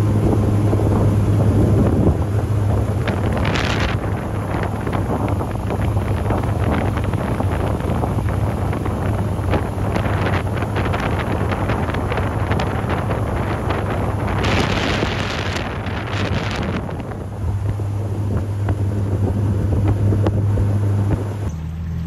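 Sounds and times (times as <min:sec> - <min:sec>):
wind buffeting microphone: 0:00.0 - 0:21.5
boat motor humming: 0:00.0 - 0:22.0
water rushing past hull: 0:00.0 - 0:22.0.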